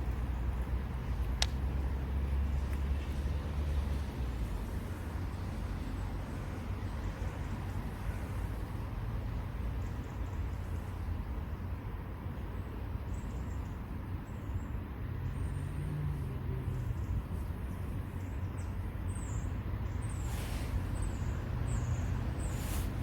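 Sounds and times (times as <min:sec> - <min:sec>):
distant road traffic rumble: 0:00.0 - 0:23.0.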